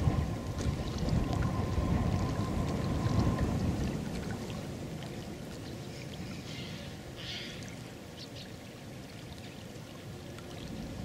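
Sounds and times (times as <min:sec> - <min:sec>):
small waves lapping: 0:00.0 - 0:11.0
wind rumbling on microphone: 0:00.0 - 0:11.0.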